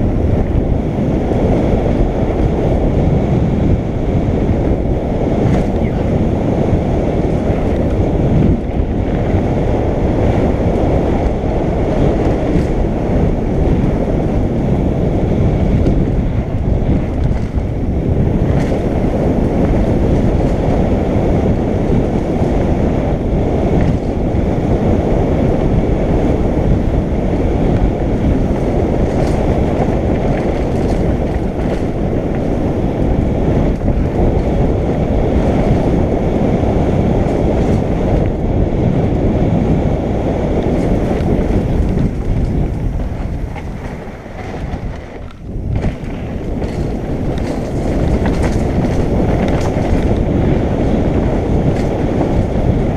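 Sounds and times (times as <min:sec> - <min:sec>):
bike tyres rumbling on dirt: 0:00.0 - 0:52.9
wind buffeting microphone: 0:00.0 - 0:52.9.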